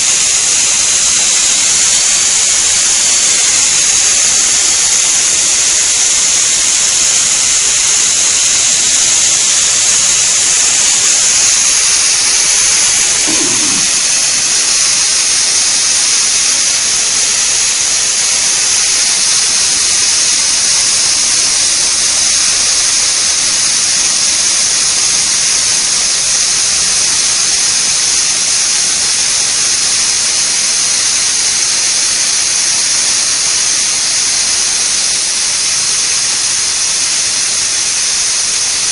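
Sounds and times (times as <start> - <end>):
pressure cooker whistle hissing steam: 0.0 - 38.9.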